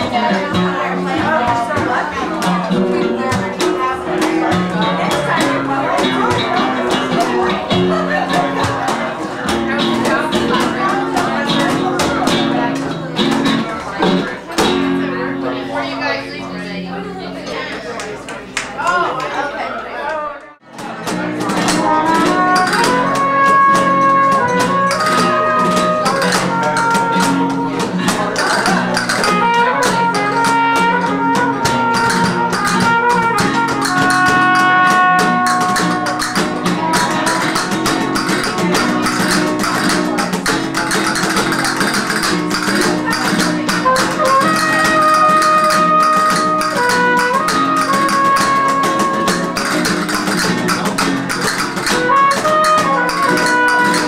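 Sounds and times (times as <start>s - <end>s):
flamenco music: 0.0s - 15.9s, 20.5s - 54.0s.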